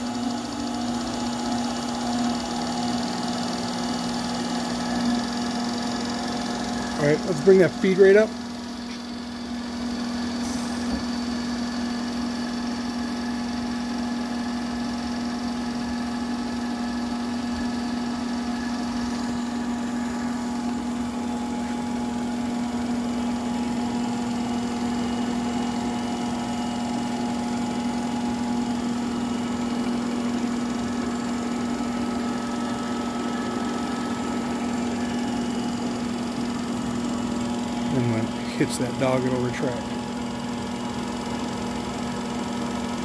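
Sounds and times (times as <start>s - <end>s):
drilling machine motor hum: 0.0s - 43.0s.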